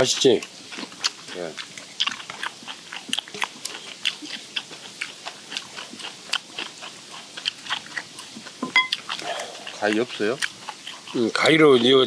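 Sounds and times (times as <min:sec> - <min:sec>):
close chewing and crunching: 0:00.0 - 0:12.0.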